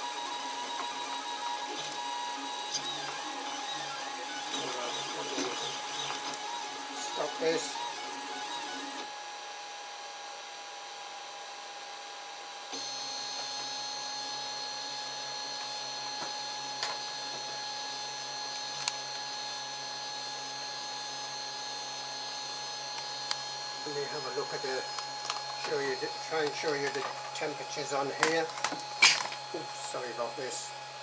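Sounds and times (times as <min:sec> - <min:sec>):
three d printer high whine: 0:00.0 - 0:09.1, 0:12.8 - 0:31.0.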